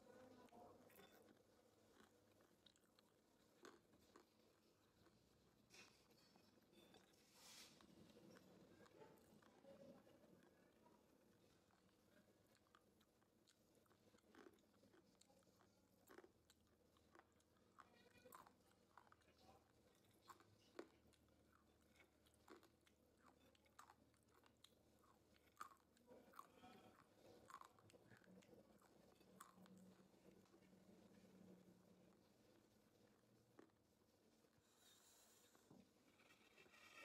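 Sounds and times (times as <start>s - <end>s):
faint crunchy chewing: 0.0s - 37.0s.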